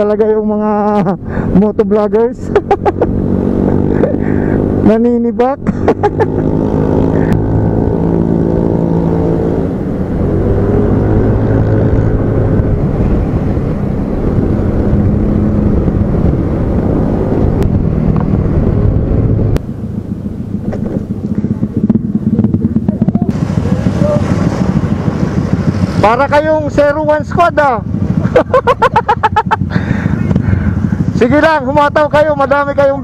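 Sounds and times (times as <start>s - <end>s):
motorcycle engines running: 0.0s - 33.0s.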